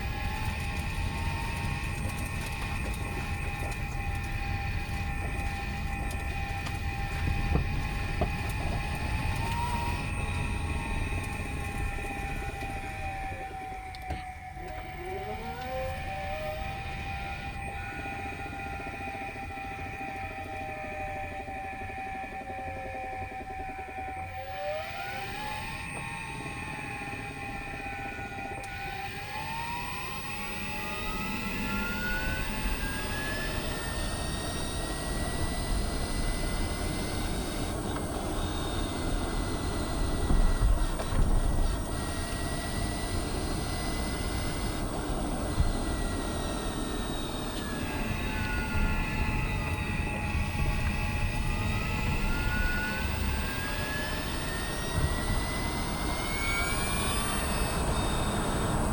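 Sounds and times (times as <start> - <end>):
whining drivetrain tones: 0.0 - 58.9.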